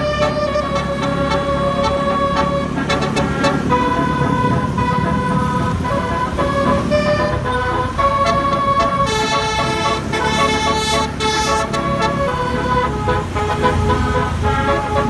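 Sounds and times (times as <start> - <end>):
bus engine rumble: 0.0 - 15.0
musical air horn tune: 0.0 - 15.0.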